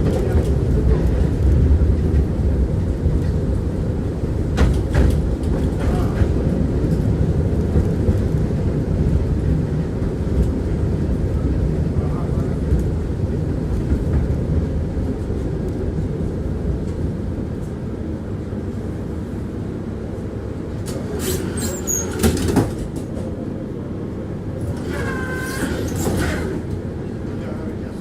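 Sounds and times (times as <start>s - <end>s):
tram wheels rumbling on rail: 0.0s - 28.0s.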